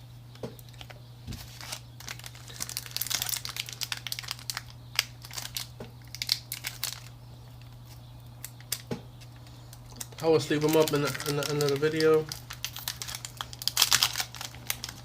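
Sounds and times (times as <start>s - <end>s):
foil wrapper crinkling: 0.6s - 15.0s.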